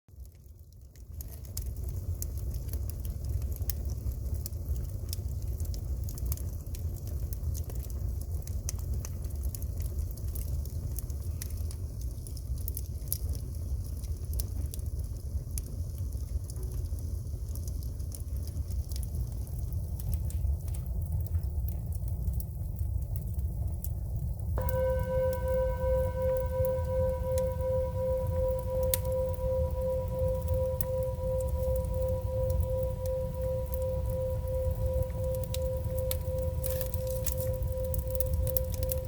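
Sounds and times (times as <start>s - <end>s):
low fire rumble: 0.2s - 39.0s
firewood crackling and popping: 0.3s - 39.0s.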